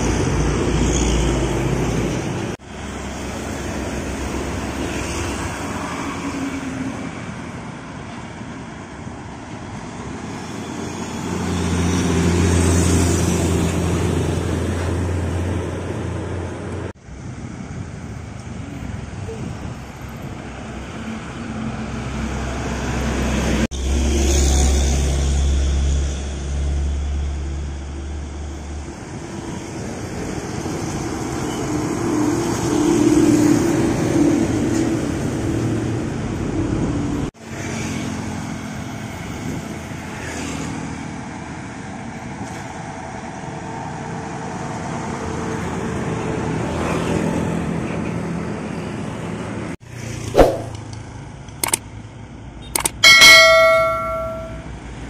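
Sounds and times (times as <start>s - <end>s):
trucks and vehicles passing: 0.0s - 55.0s.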